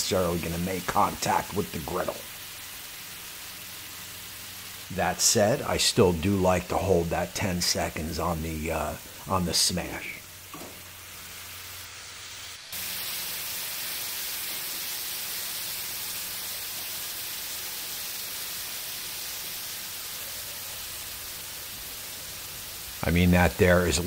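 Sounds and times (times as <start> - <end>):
meat and onions sizzling on griddle: 0.0 - 24.0.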